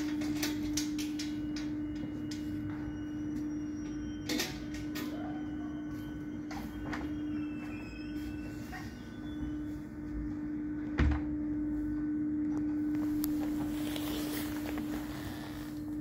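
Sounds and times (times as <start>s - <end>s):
tramway machinery hum: 0.0s - 16.0s.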